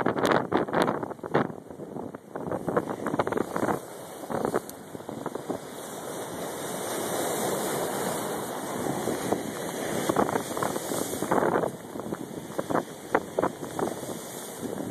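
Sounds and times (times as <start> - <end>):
surf breaking over rocks: 0.0 - 14.9
wind buffeting microphone: 0.0 - 14.9.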